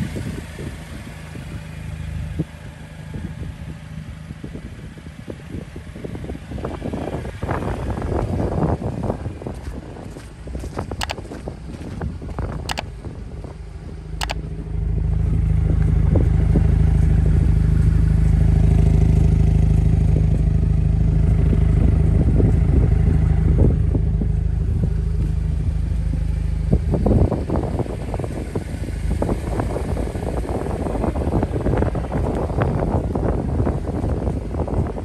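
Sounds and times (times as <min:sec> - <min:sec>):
engine humming at steady revs: 0:00.0 - 0:35.0.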